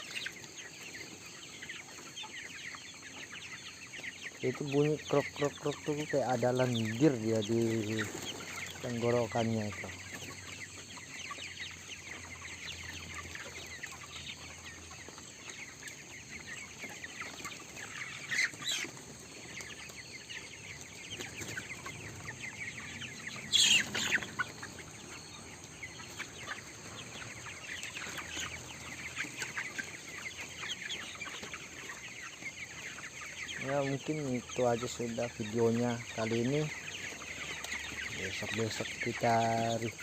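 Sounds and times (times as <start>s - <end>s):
chickens calling: 0.0s - 40.0s.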